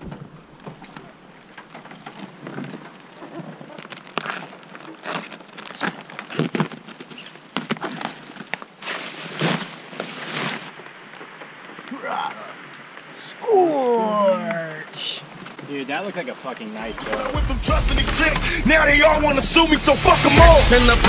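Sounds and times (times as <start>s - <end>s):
plastic wrapping crinkling: 0.0s - 13.1s, 15.1s - 19.7s.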